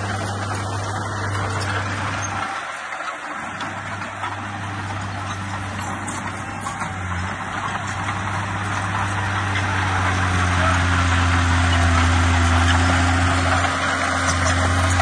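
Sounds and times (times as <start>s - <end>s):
bulldozer diesel engine under load: 0.0s - 15.0s.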